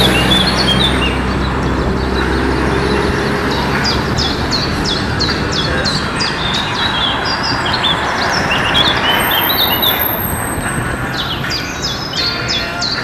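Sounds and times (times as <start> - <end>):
small birds chirping: 0.0 - 13.0
tram rumbling on rails: 0.0 - 13.0.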